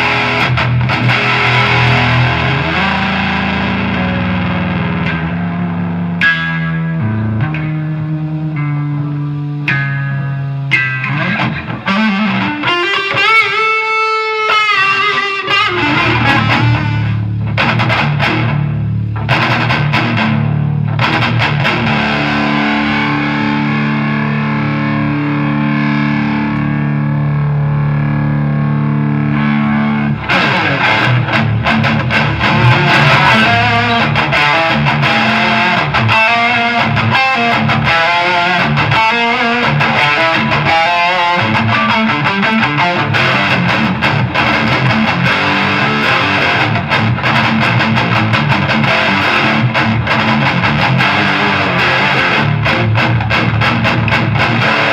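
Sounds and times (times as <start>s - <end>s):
distorted electric guitar: 0.0s - 54.9s.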